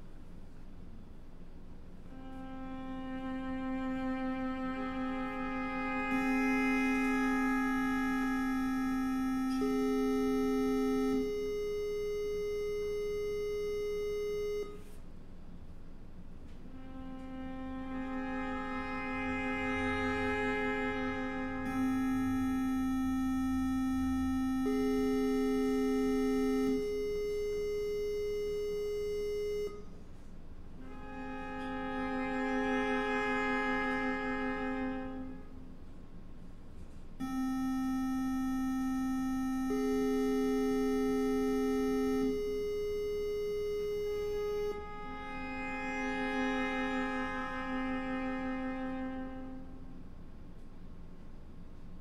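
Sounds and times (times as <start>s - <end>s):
background music of long held notes: 2.1s - 14.7s, 16.6s - 29.8s, 30.8s - 35.7s, 37.2s - 50.0s.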